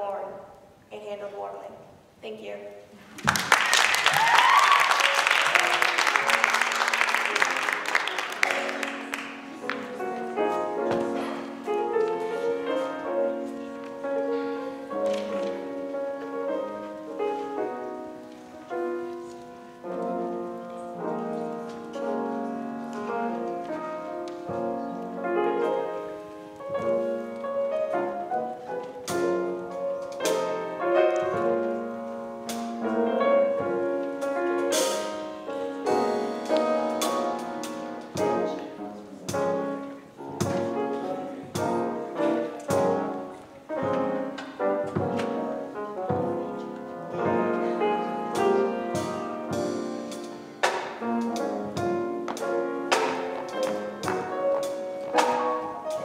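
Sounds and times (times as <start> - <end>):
piano music: 3.2 - 56.0.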